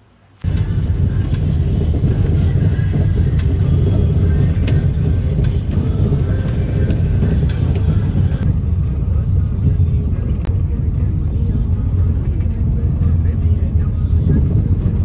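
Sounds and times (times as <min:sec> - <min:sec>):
car rumble in motion: 0:00.2 - 0:15.0
music playing: 0:00.4 - 0:15.0.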